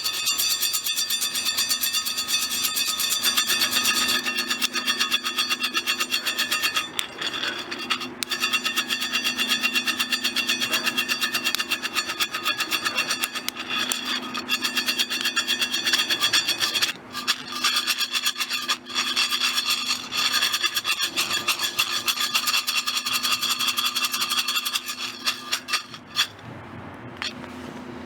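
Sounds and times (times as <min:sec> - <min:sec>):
hand coffee mill grinding beans: 0:00.0 - 0:26.5, 0:27.2 - 0:27.4.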